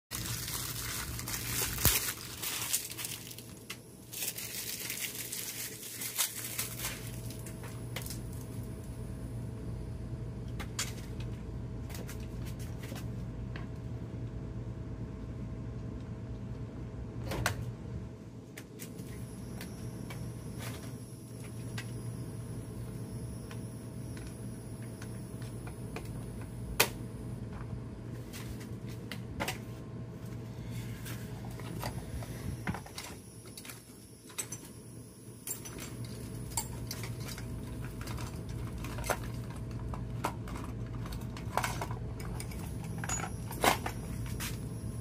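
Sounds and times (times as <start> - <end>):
steady low hum: 0.1 - 45.0.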